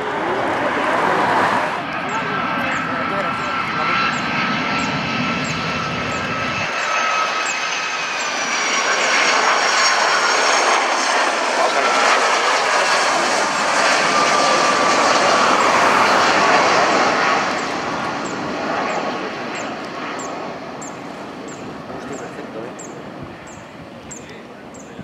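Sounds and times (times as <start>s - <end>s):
jet engines roaring and whining: 0.0s - 25.0s.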